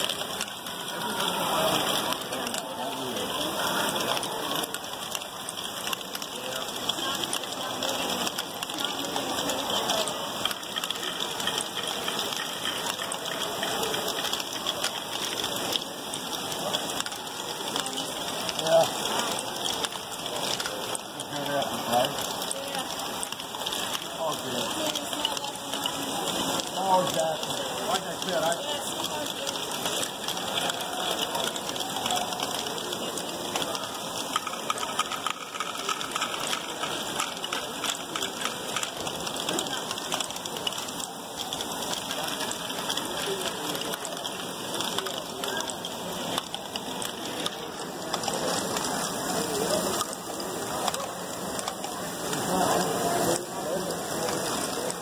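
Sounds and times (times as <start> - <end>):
plastic balls clattering and rolling: 0.0 - 55.0
plastic gears ticking: 0.0 - 55.0.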